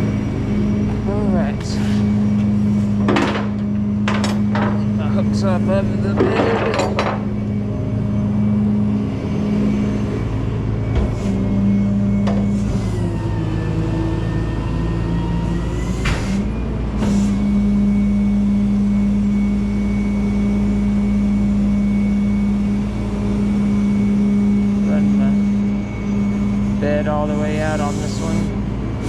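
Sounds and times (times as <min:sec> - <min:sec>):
truck engine and hydraulic pump: 0:00.0 - 0:29.0.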